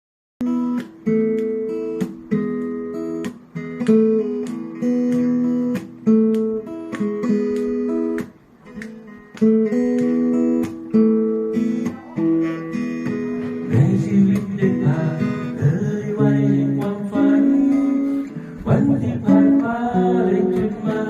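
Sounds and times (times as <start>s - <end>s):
acoustic guitar strumming chords: 0.4s - 21.0s.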